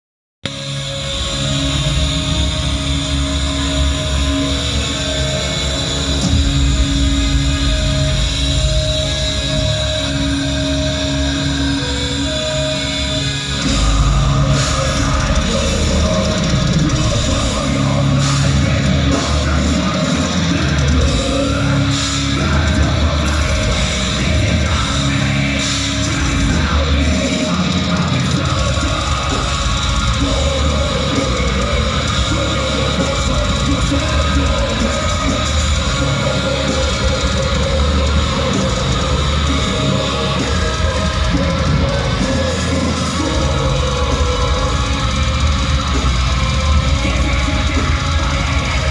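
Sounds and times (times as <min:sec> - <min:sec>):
heavy metal band playing live: 0:00.4 - 0:48.9
pounding drum kit: 0:00.5 - 0:48.9.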